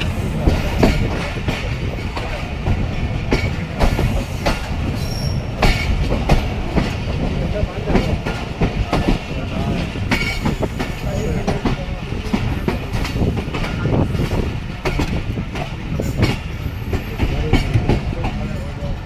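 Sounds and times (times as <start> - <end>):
rail joint clicks and knocks: 0.0 - 19.0
train wheels rumbling on rail: 0.0 - 19.0.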